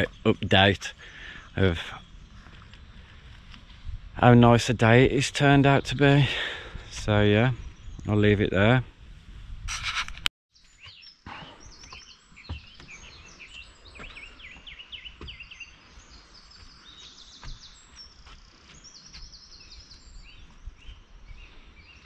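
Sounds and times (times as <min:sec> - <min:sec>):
songbirds chirping and trilling: 0:00.0 - 0:09.0, 0:10.5 - 0:22.0.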